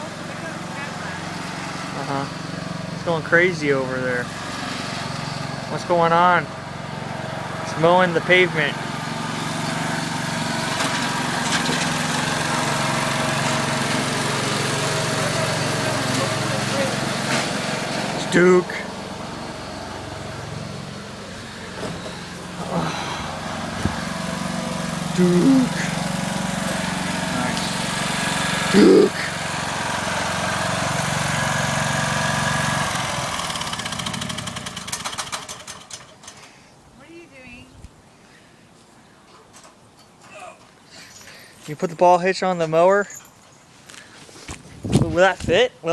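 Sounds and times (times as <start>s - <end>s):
riding lawn mower engine: 0.0s - 36.8s.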